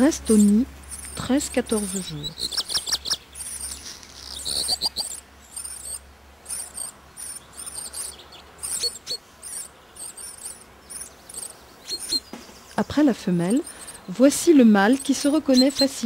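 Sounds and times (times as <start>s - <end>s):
nestlings squeaking: 0.0s - 16.0s.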